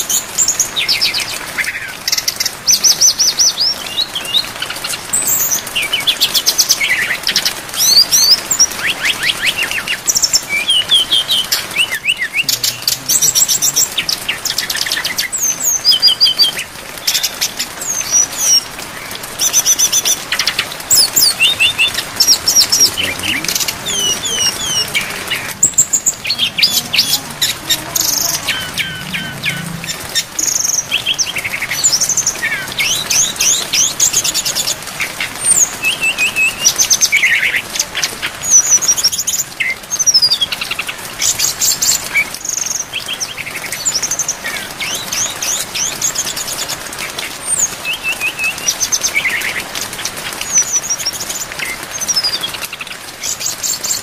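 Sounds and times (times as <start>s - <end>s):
bird song chirps and trills: 0.0s - 54.0s
falling rain hiss: 0.0s - 54.0s.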